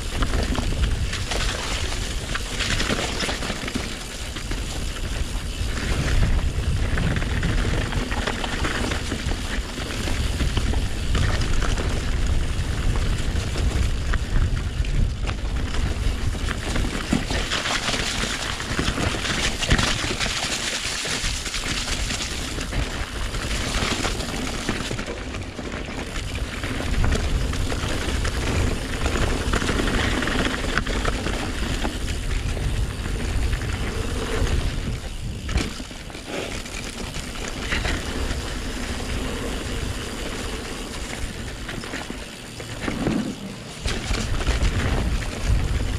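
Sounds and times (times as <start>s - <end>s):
bike rattling over bumps: 0.0s - 45.9s
wind rumbling on microphone: 0.0s - 45.9s.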